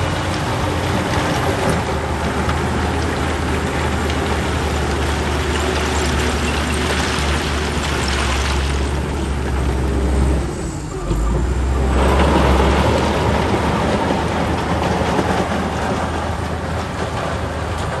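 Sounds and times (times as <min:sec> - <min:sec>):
diesel machinery droning: 0:00.0 - 0:18.0.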